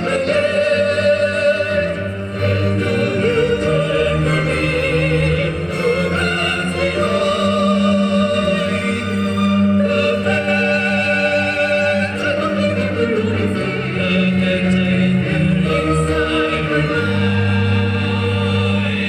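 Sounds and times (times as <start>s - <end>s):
operatic singing: 0.0s - 19.0s
orchestra playing: 0.0s - 19.0s.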